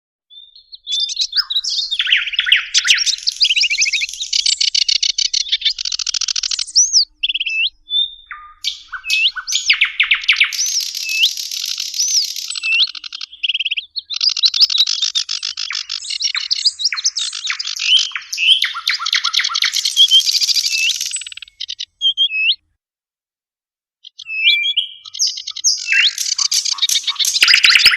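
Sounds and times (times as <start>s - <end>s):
songbirds singing: 0.3s - 22.6s, 24.0s - 27.9s.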